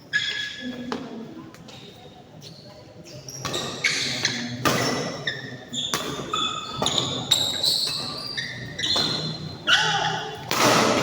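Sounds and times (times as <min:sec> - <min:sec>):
shoes squeaking on court floor: 0:00.0 - 0:01.1, 0:01.7 - 0:11.0.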